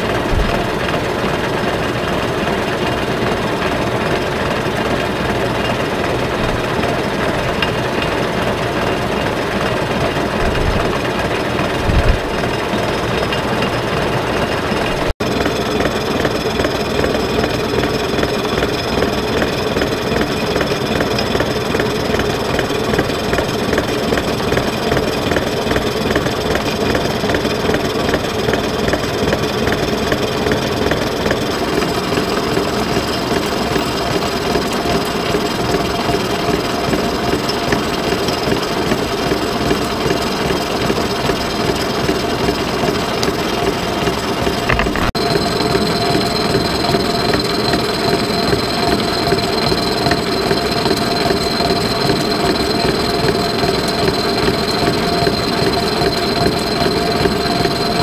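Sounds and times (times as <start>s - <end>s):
milling machine spindle running: 0.0s - 58.0s
cutter chattering through metal: 4.5s - 58.0s.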